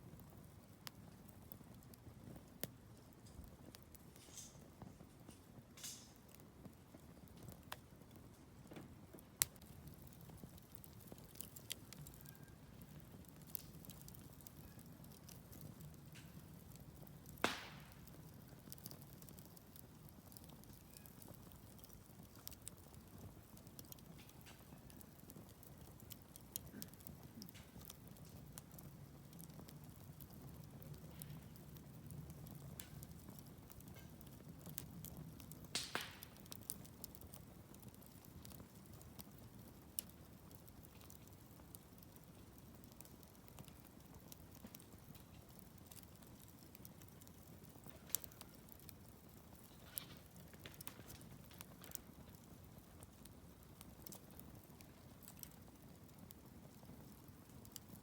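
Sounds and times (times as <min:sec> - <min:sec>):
campfire crackling: 0:00.0 - 0:58.0
fire pops: 0:00.0 - 0:58.0
low rumble of burning: 0:00.0 - 0:58.0.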